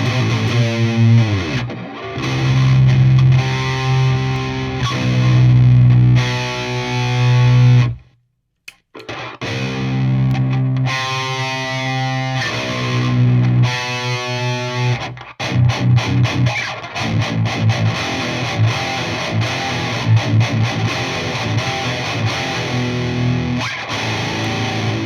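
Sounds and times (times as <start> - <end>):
distorted electric guitar: 0.0 - 8.1, 8.9 - 25.0.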